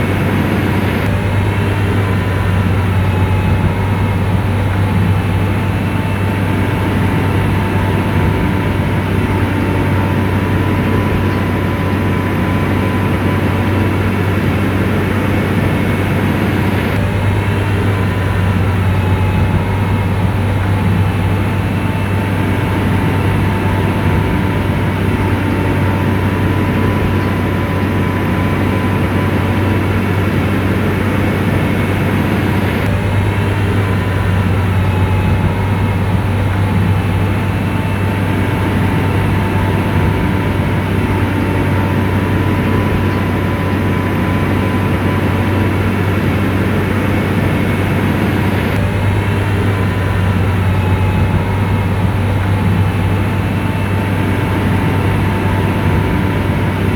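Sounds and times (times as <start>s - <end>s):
bulldozer diesel engine running: 0.0s - 56.9s
thin steady whine: 0.0s - 56.9s.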